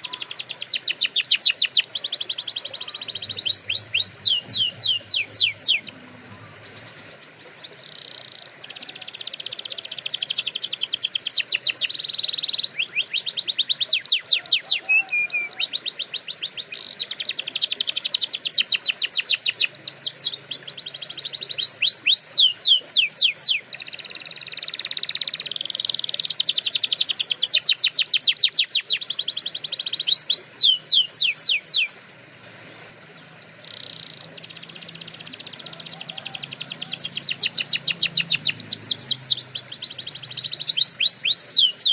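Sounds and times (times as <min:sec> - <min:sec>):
canary singing trills: 0:00.0 - 0:32.0, 0:33.1 - 0:41.9.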